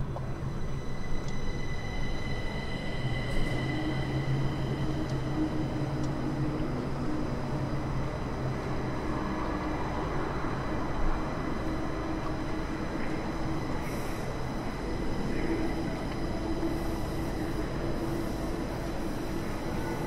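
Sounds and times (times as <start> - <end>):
rushing rail noise: 0.0 - 20.0
train running on elevated track: 0.0 - 20.0.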